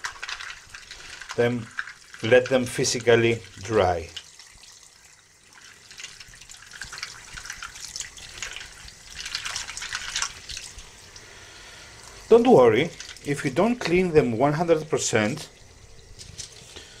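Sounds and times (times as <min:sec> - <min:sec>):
water splashing and dripping: 0:00.0 - 0:11.3, 0:12.0 - 0:17.0.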